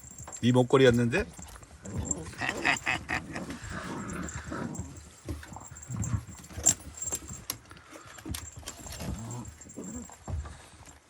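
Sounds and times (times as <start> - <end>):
light clinks and scuffles: 0.0 - 11.0
small bells jingling: 0.0 - 11.0.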